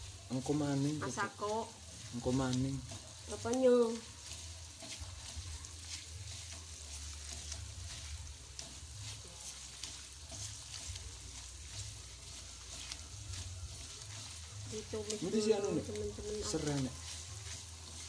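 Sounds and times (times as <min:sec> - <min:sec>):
spatula scraping and tapping pan: 0:00.0 - 0:18.0
spice paste sizzling in oil: 0:00.0 - 0:18.0.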